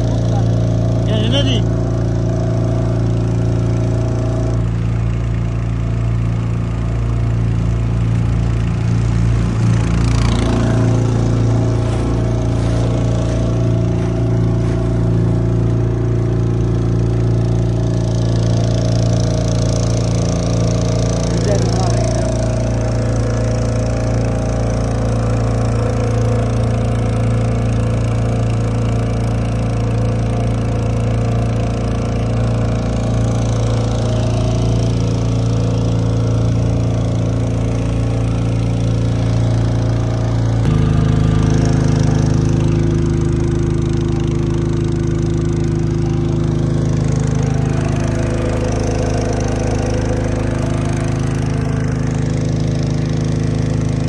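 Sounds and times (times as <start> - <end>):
motorboat engine running: 0.0 - 54.0.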